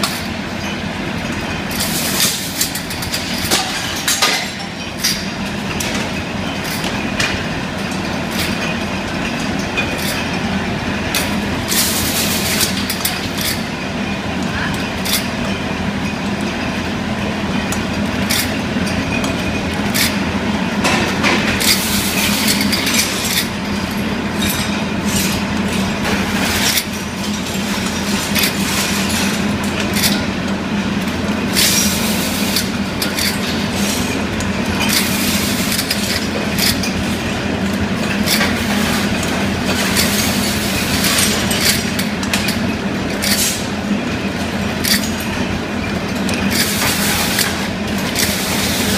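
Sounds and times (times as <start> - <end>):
bottling machine humming: 0.0 - 48.9.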